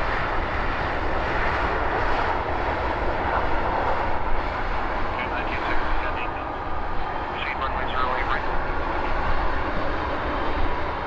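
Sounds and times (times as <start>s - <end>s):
jet engine rushing: 0.0s - 11.0s.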